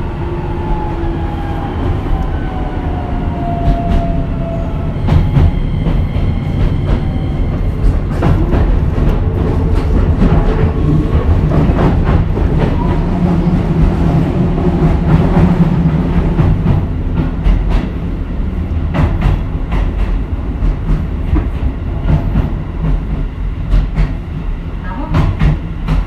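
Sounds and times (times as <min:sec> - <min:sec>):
electric train rumbling on rails: 0:00.0 - 0:26.0.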